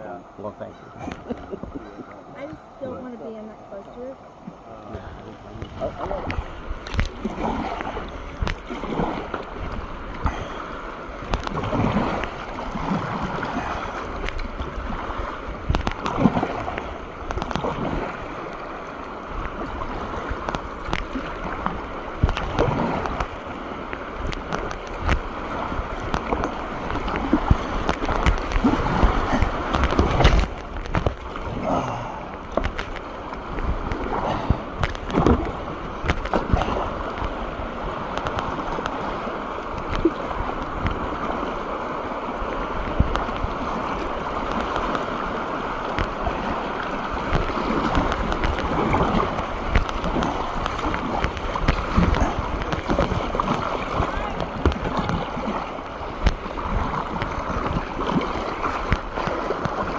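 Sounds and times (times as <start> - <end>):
rushing whitewater: 0.0 - 59.9
water slapping against boat: 0.0 - 59.9.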